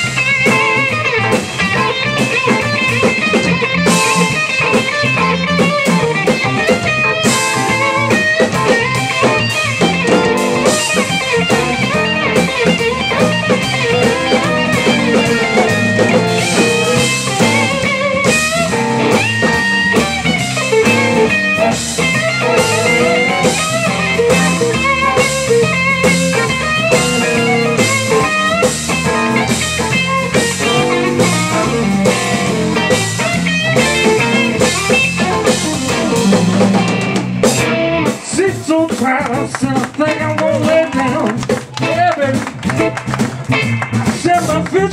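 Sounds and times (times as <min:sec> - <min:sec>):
drum kit: 0:00.0 - 0:44.9
electric guitar playing: 0:00.0 - 0:44.9.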